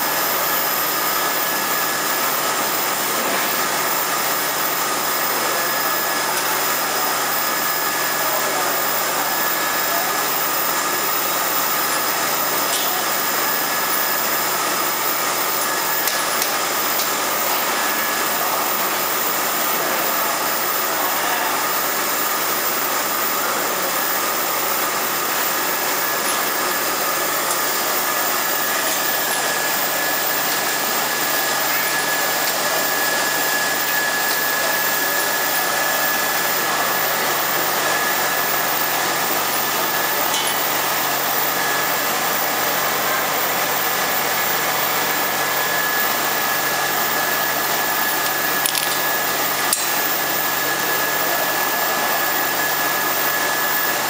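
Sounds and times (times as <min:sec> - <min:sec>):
machine noise with high whine: 0:00.0 - 0:54.0.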